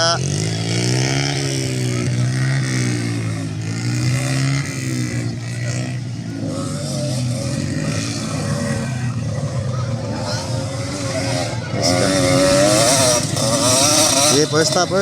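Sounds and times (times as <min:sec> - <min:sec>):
minibike engines revving: 0:00.0 - 0:15.0
steady engine drone: 0:00.0 - 0:15.0.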